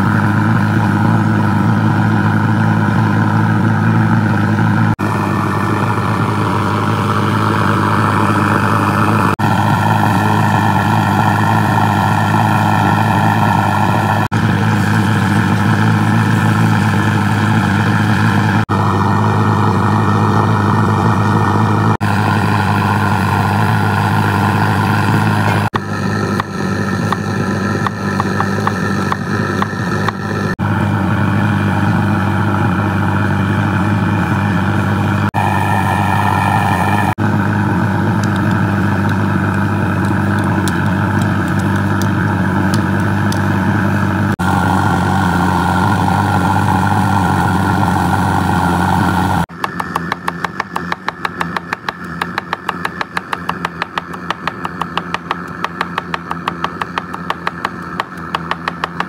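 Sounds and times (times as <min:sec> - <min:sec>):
pressure burner roaring: 0:00.0 - 0:59.0.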